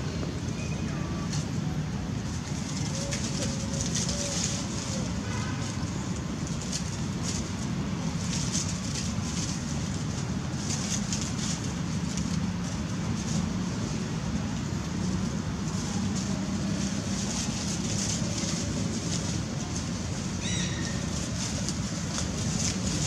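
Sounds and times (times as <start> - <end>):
low hum and rumble: 0.0 - 23.0.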